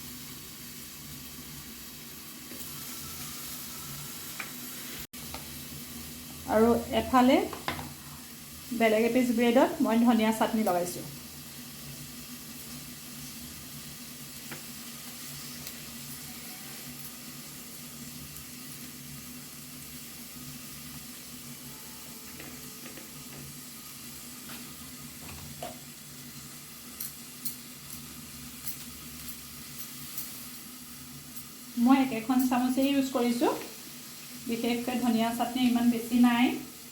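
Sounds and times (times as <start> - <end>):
food sizzling in a pan: 0.0 - 36.9.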